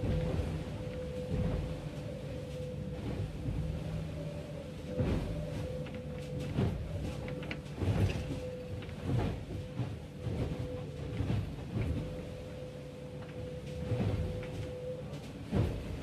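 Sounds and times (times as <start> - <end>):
low rumble of hull through sea: 0.0 - 16.0
steady background hum: 0.0 - 16.0.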